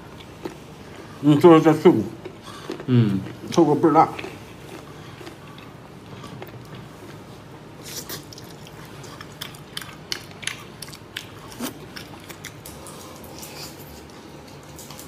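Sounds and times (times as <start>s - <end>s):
chewing crunchy cartilage: 0.0s - 15.0s.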